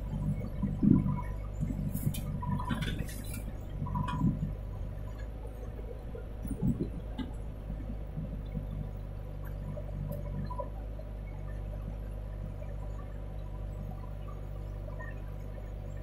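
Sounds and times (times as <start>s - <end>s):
diesel engines running: 0.0s - 16.0s.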